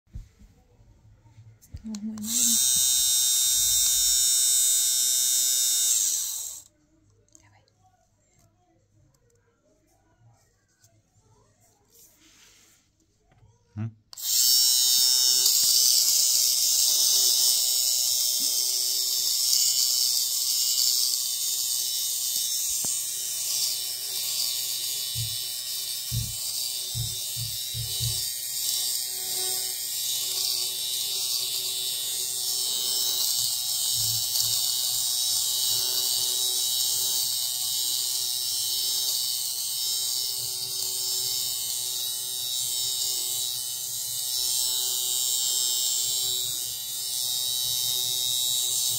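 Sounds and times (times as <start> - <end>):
fabric shaver whirring: 1.7 - 6.7, 13.8 - 48.9.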